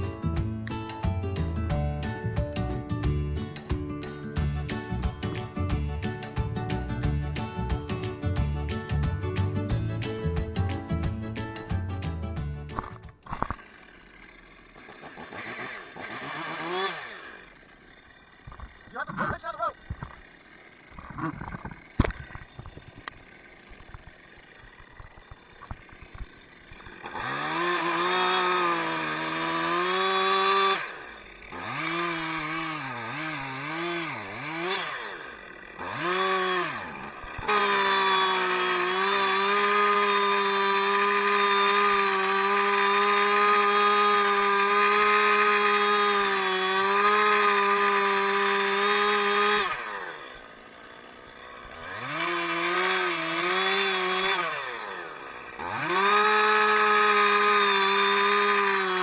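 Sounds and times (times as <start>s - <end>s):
chainsaw revving and cutting: 0.0s - 1.6s, 2.6s - 59.0s.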